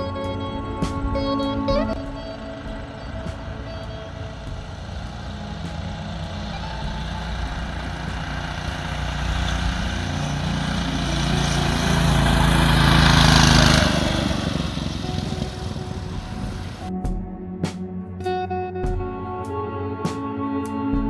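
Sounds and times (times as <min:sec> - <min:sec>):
mini bike engine revving: 0:00.0 - 0:16.9.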